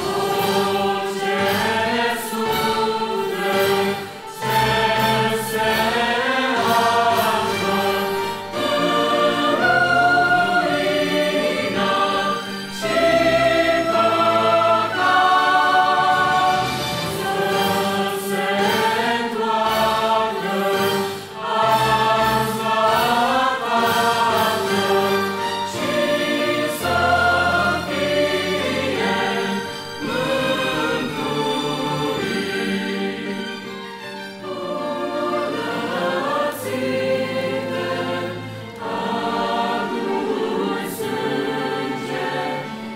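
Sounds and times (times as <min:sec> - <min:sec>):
choir singing a hymn: 0:00.0 - 0:42.9.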